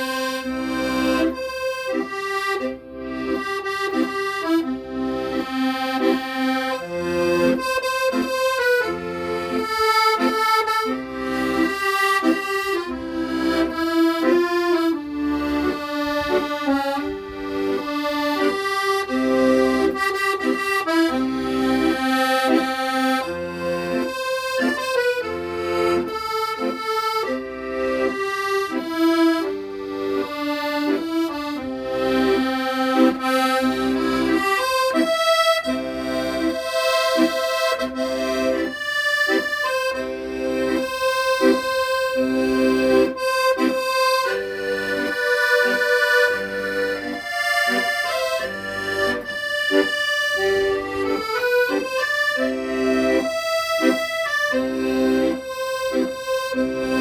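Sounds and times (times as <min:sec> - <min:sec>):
accordion playing: 0:00.0 - 0:57.0.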